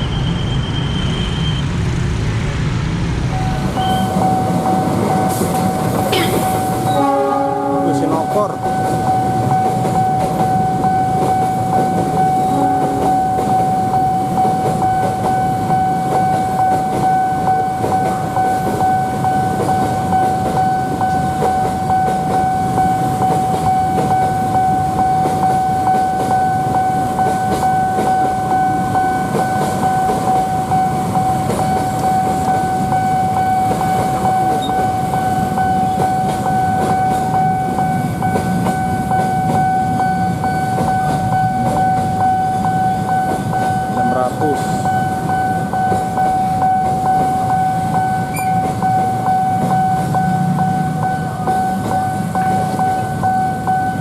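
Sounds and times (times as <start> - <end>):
train rumble and wheel noise: 0.0 - 54.0
level crossing warning alarm: 3.3 - 54.0.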